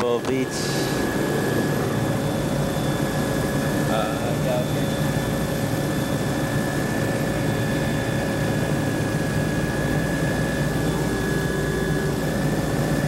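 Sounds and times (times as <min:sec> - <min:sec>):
aircraft cabin drone: 0:00.0 - 0:13.0
steady whining tones: 0:00.0 - 0:13.0.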